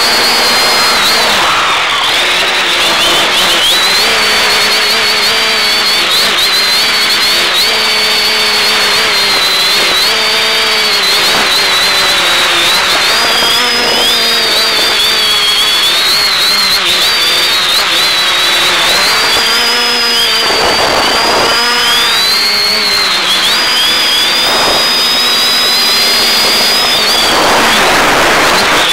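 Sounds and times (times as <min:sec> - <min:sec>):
rush of noise: 0:00.0 - 0:10.1, 0:10.7 - 0:28.9
drone propellers whining: 0:00.0 - 0:28.9.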